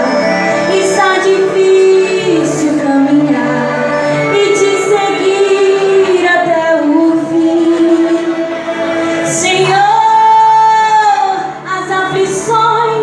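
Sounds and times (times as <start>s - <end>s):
musical accompaniment: 0.0s - 13.0s
woman singing worship song: 0.0s - 13.0s.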